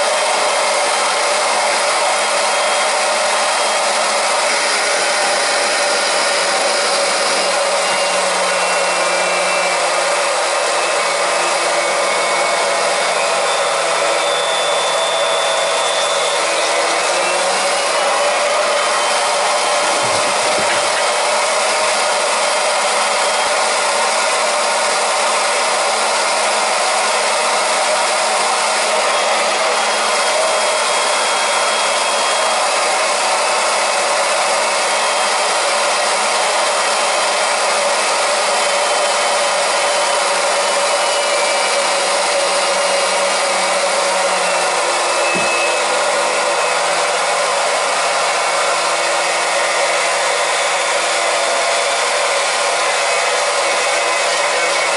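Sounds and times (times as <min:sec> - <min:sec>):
electric pump running: 0:00.0 - 0:54.9.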